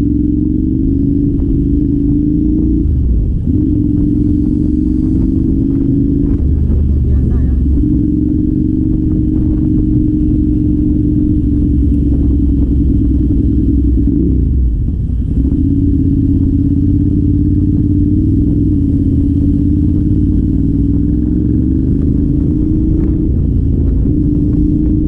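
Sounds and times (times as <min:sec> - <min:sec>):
motorcycle engine while riding: 0:00.0 - 0:25.0.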